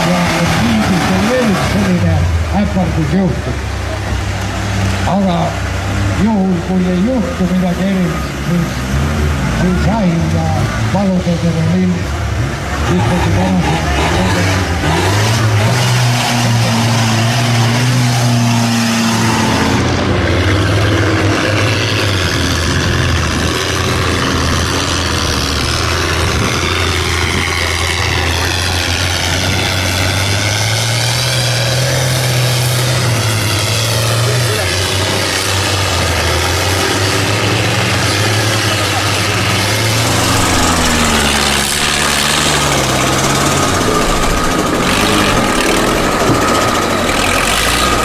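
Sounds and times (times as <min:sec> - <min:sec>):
off-road engines revving: 0:00.0 - 0:48.0
vehicles ploughing through mud and water: 0:00.0 - 0:48.0.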